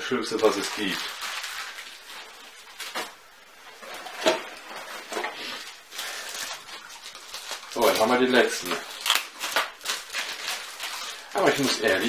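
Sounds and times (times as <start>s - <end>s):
cardboard and plastic wrap rustling: 0.0s - 12.0s.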